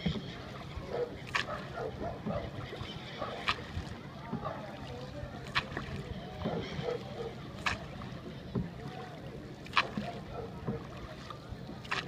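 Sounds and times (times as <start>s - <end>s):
boat engine drone: 0.0s - 12.0s
faint voices: 0.1s - 12.0s.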